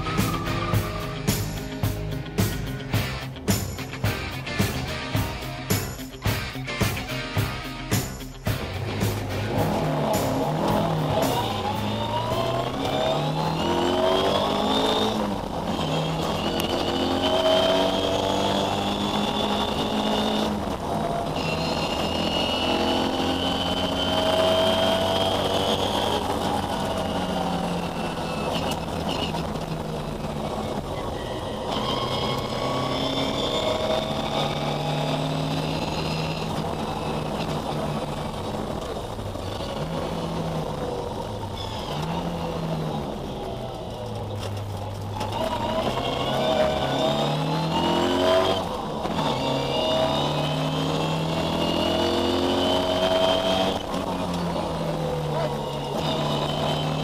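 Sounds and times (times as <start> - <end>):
rally car engine at full throttle: 0.0 - 57.0.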